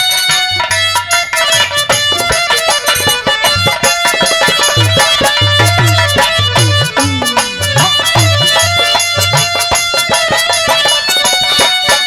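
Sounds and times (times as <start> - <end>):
held melody line: 0.0 - 12.0.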